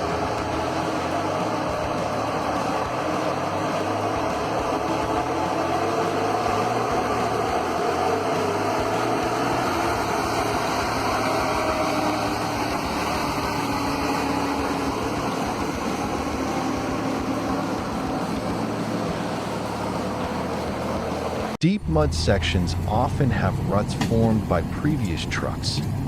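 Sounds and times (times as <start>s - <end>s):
heavy truck engine running: 0.0s - 26.0s.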